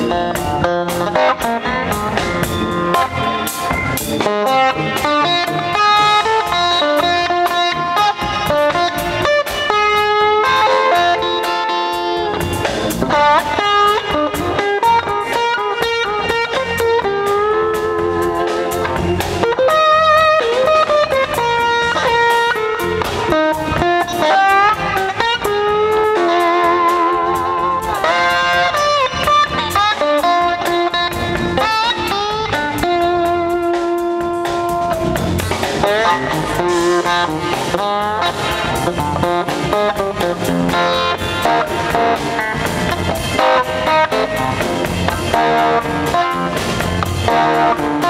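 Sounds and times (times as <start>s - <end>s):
electric guitar lead: 0.0s - 48.0s
live rock band jamming: 0.0s - 48.0s.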